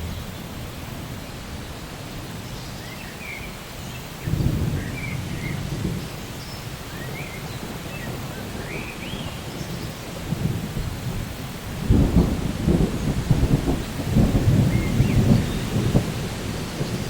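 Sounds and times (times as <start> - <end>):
low rumble of thunder: 0.0 - 3.0, 4.1 - 17.0
steady rain: 0.0 - 17.0.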